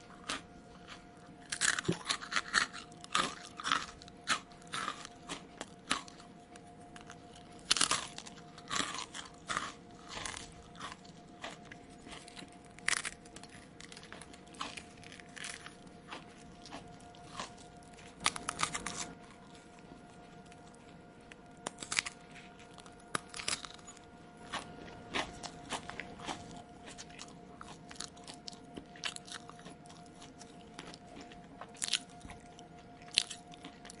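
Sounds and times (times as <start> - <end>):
mouth chewing crunchy food: 0.0 - 34.0.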